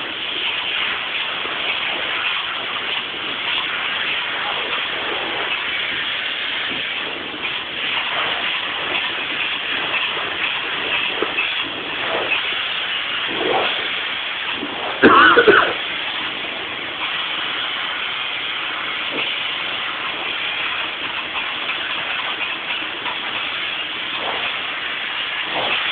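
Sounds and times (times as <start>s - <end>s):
spray foam gun hissing: 0.0s - 25.9s.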